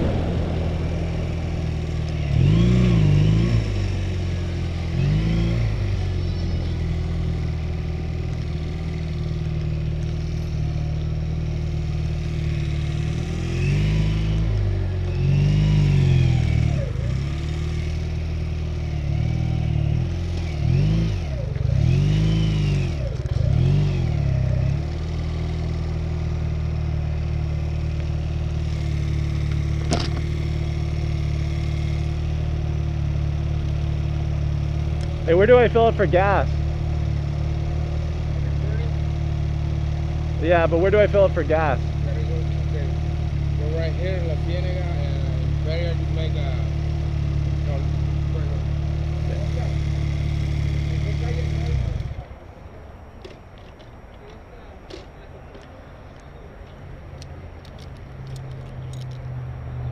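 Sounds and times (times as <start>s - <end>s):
motorcycle engine revving: 0.0s - 52.6s.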